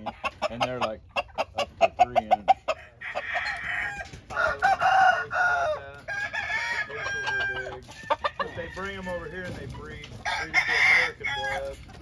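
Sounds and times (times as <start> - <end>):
chicken clucks: 0.0 - 12.0
roosters crowing: 2.0 - 11.9.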